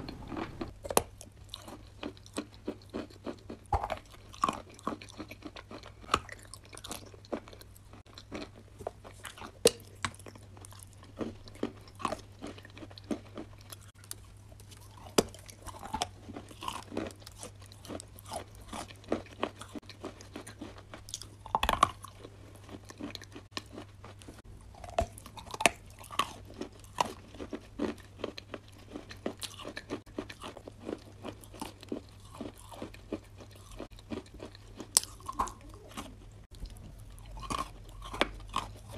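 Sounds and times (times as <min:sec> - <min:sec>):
crunchy chewing: 0:00.0 - 0:38.9
low steady hum: 0:00.0 - 0:38.9.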